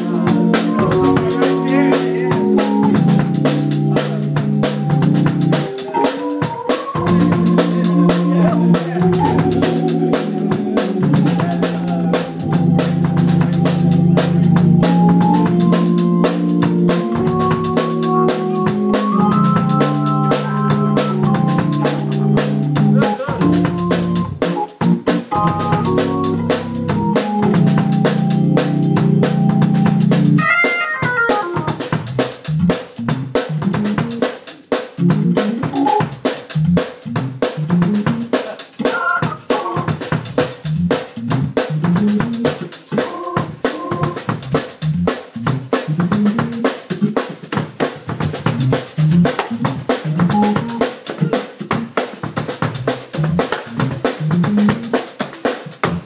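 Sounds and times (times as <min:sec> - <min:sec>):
drawbar organ: 0:00.0 - 0:32.7, 0:34.9 - 0:47.4, 0:48.2 - 0:52.0
drum kit groove: 0:00.0 - 0:56.0.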